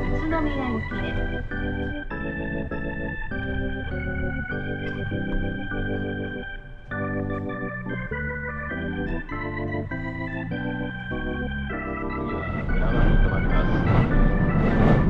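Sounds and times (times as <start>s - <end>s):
background music held chords: 0.0s - 15.0s.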